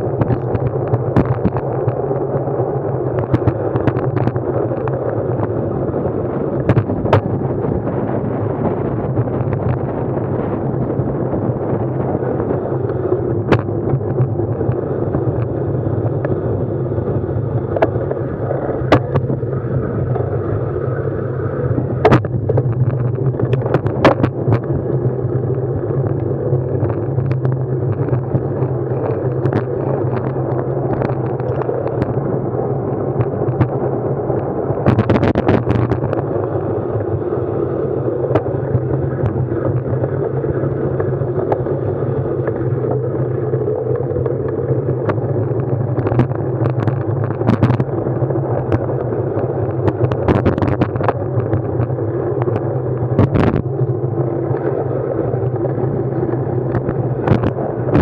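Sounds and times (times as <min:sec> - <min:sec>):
ride rumble and wind noise: 0:00.0 - 0:58.0.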